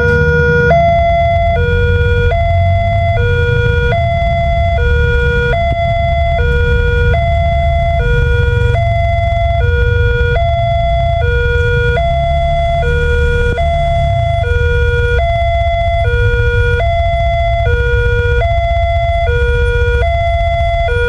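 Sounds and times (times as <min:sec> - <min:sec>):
low rumble: 0:00.0 - 0:20.9
two-tone level crossing alarm: 0:00.0 - 0:21.0.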